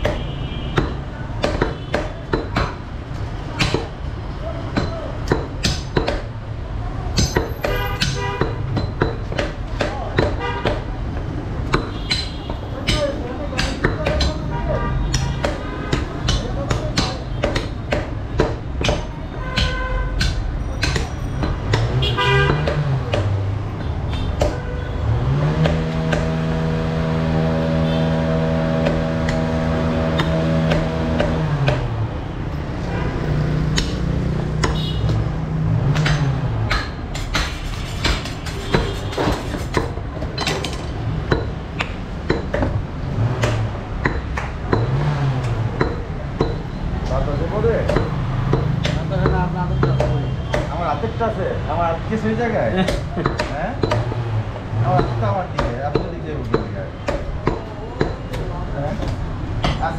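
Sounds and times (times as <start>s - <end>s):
cleaver chopping meat on wood: 0.0s - 4.1s, 4.7s - 6.4s, 7.1s - 24.7s, 25.4s - 27.1s, 28.1s - 32.2s, 33.1s - 35.3s, 35.9s - 51.2s, 52.7s - 59.9s
motor vehicle humming: 0.0s - 59.9s.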